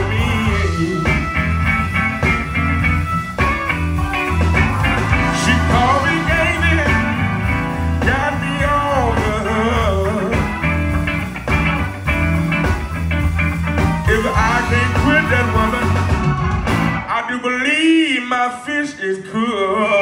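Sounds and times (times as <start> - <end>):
electric bass: 0.0 - 17.2
electric guitar playing lead: 0.0 - 17.2
drums: 0.0 - 17.5.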